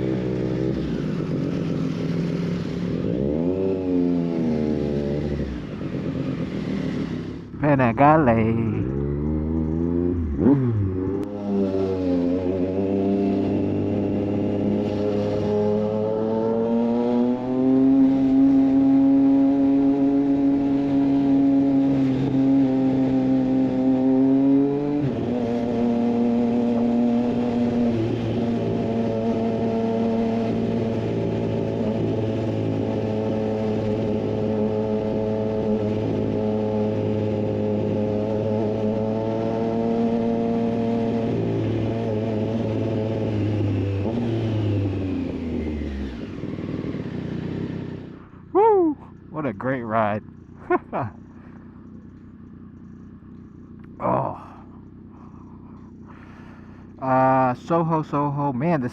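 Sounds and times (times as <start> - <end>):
motorcycle engine cruising: 0.0 - 58.9.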